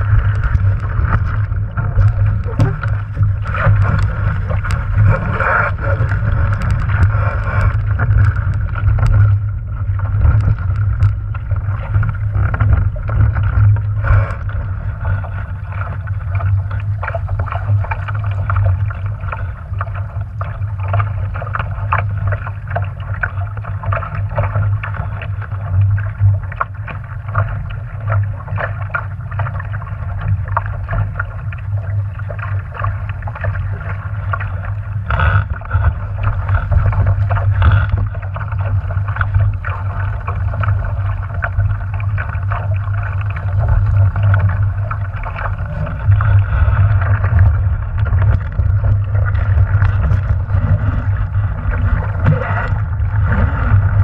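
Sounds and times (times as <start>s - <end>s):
water slapping against hull: 0.0s - 54.0s
wind rumble on microphone: 0.0s - 54.0s.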